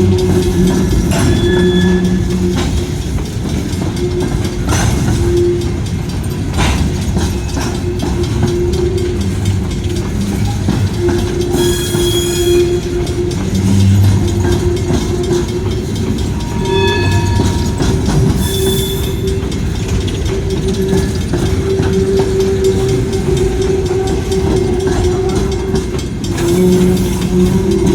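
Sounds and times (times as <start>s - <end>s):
train rumbling past: 0.0s - 27.9s
train wheels squealing: 0.0s - 27.9s.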